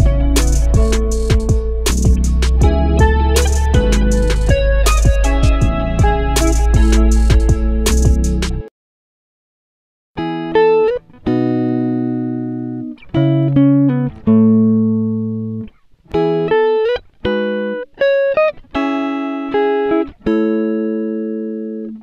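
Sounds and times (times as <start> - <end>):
plucked string instrument music: 0.0 - 8.7, 10.2 - 22.0.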